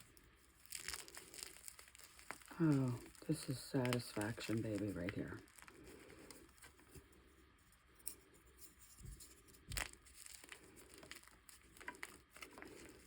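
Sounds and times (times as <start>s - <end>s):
chalk crumbling and crackling: 0.0s - 13.0s.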